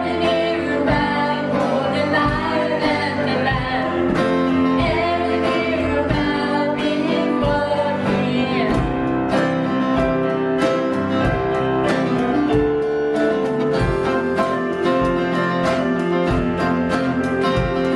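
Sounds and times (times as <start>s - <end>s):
acoustic guitar strumming: 0.0s - 17.9s
band singing: 0.0s - 17.9s.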